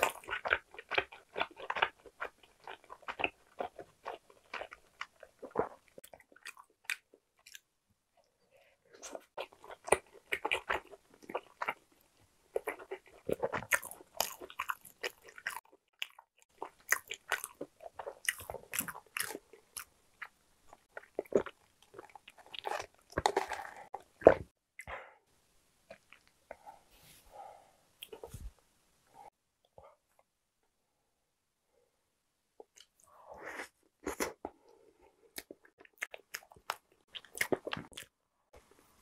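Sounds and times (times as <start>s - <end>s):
person chewing food: 0.0s - 25.0s, 25.9s - 28.5s, 32.6s - 39.0s.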